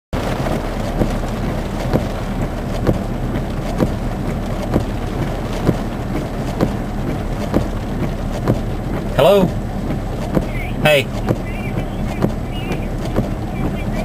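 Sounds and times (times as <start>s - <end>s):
rain: 0.2s - 14.0s
vehicle rumble: 0.2s - 14.0s
windshield wipers swish-thump: 0.2s - 14.0s.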